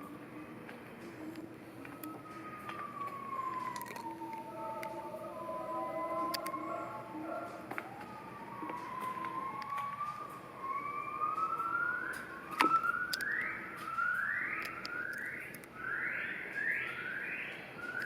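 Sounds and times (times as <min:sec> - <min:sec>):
bird calling rising notes: 0:01.7 - 0:18.0.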